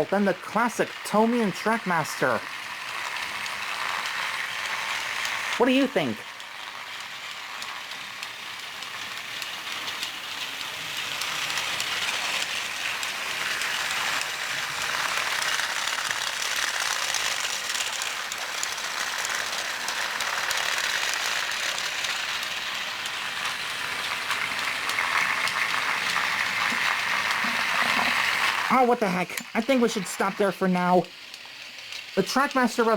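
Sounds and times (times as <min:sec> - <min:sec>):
toy train motors whirring: 0:00.0 - 0:32.9.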